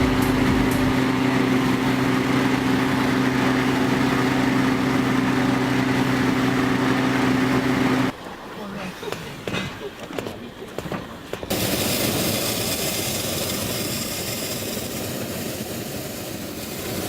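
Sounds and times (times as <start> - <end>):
steady engine hum: 0.0 - 17.0.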